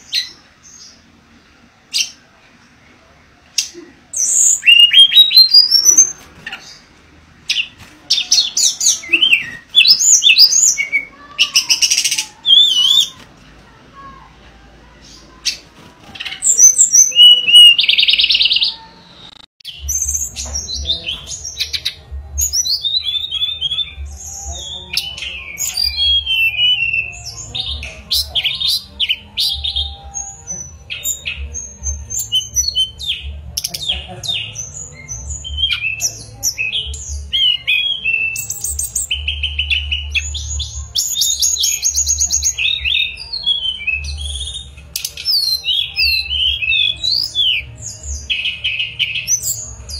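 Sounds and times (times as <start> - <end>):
bird singing trills and whistles: 3.6 - 6.8, 7.5 - 13.2, 16.2 - 49.9.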